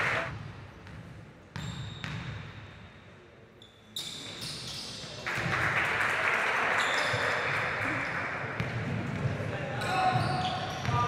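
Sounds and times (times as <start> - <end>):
basketball bouncing in a hall: 0.0 - 3.1, 4.0 - 5.8, 6.8 - 11.0.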